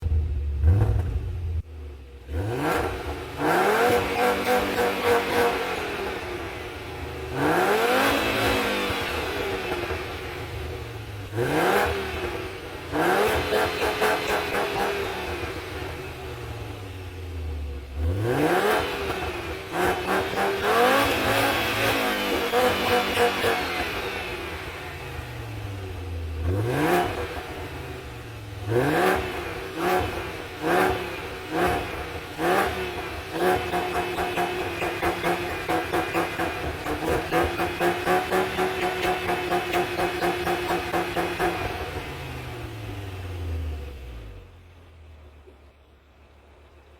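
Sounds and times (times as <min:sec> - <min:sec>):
car engine revving: 0:00.0 - 0:44.6.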